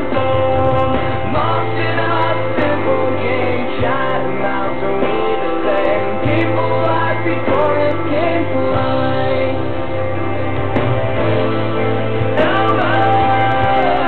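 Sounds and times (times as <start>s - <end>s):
instrumental backing track: 0.0s - 14.0s.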